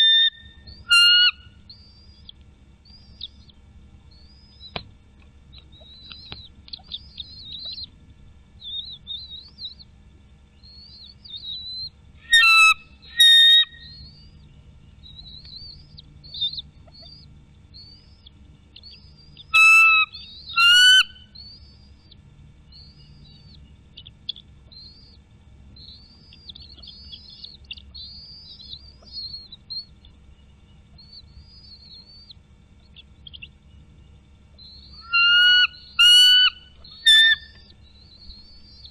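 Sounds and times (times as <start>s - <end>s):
loud ringing bird calls: 0.0s - 38.9s
small bird chirps and trills: 0.0s - 38.9s.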